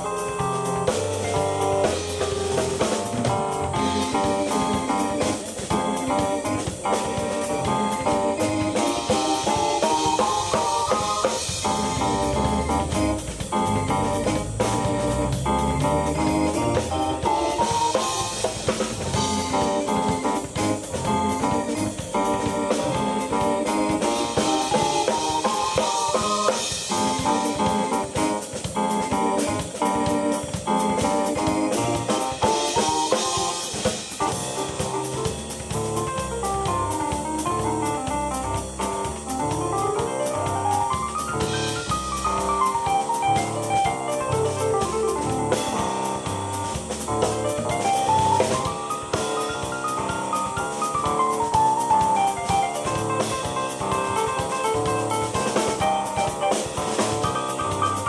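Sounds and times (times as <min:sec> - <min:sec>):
drum kit beat: 0:00.0 - 0:58.0
keyboard playing rock lines: 0:00.0 - 0:58.0.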